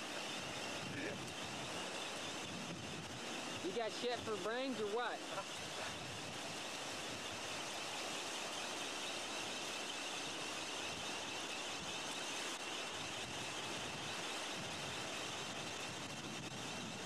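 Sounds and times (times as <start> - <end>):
wind on beach: 0.0 - 17.0.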